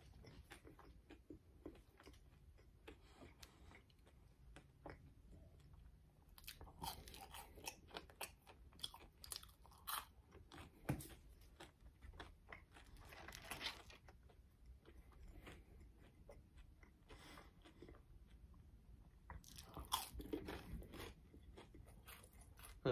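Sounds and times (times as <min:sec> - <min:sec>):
chewing crunchy fries: 0:00.0 - 0:22.9.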